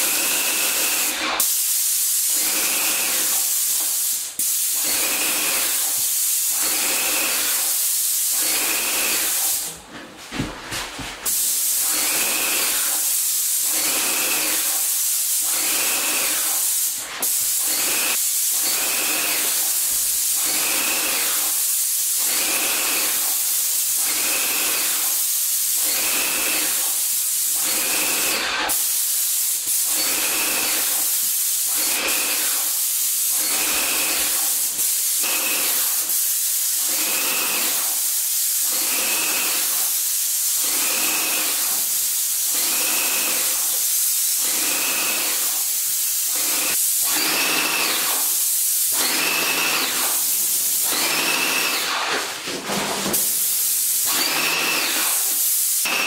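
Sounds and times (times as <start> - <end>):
paint sprayer hissing: 0.0 - 56.0.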